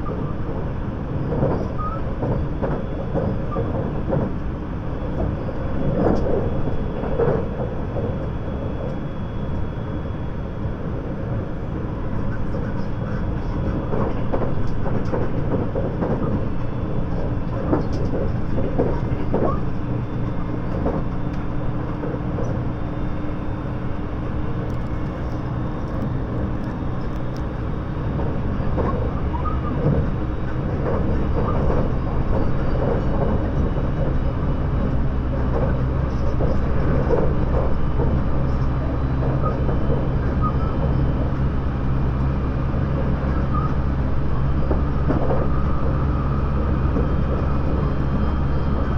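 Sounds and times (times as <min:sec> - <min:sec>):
humming drone: 0:00.0 - 0:48.9
wheels rumbling on rail: 0:00.0 - 0:48.9.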